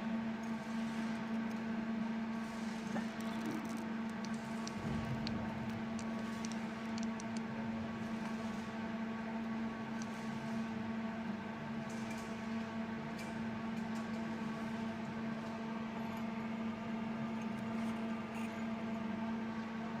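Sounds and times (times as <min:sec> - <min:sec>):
furnace electrical hum: 0:00.0 - 0:20.0.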